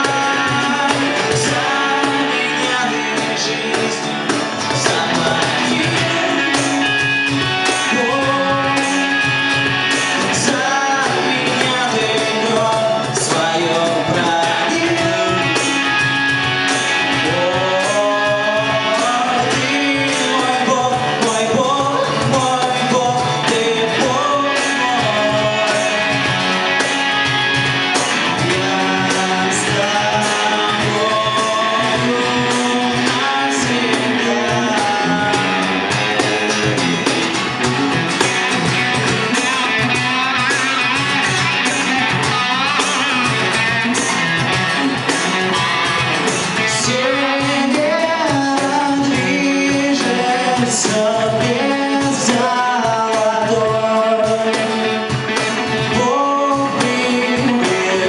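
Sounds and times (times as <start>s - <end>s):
man singing: 0.0s - 37.4s, 38.0s - 58.0s
cajon beat: 0.0s - 58.0s
electric guitar: 0.0s - 58.0s
strummed acoustic guitar: 0.0s - 58.0s.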